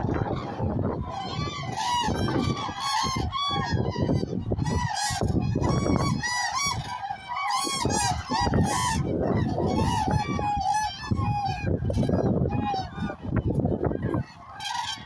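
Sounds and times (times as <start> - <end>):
cranes trumpeting calls: 0.0 - 15.0.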